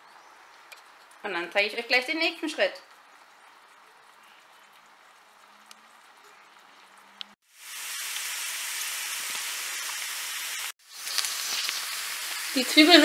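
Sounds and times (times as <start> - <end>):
onion and garlic sizzling in oil: 0.9 - 13.0.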